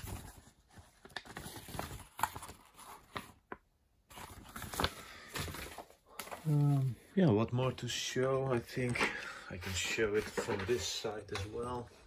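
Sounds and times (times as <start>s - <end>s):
paper rustling and flapping: 0.0s - 6.7s, 8.8s - 11.8s.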